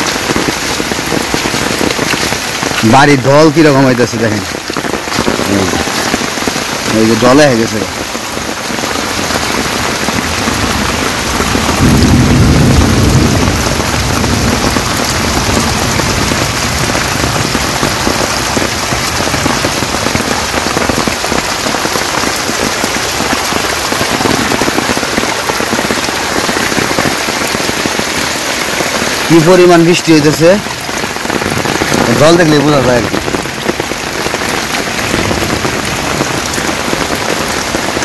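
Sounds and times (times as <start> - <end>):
heavy rain falling: 0.0 - 38.0
rainwater runoff streaming: 0.0 - 38.0.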